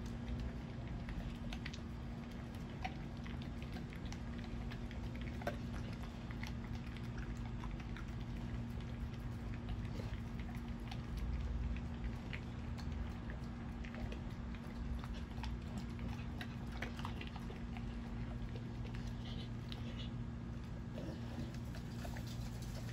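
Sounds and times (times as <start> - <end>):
dog crunching dry food: 0.0 - 22.9
steady low hum: 0.0 - 22.9.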